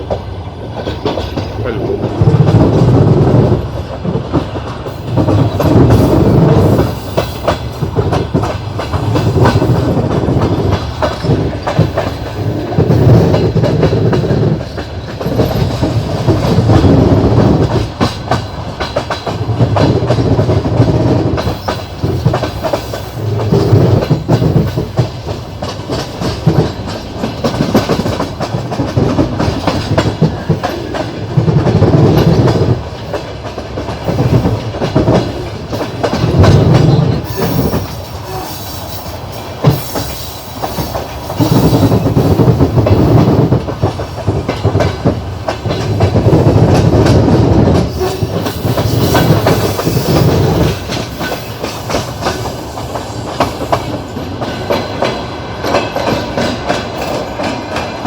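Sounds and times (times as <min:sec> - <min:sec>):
train wheels clattering over rail joints: 0:00.0 - 0:58.0.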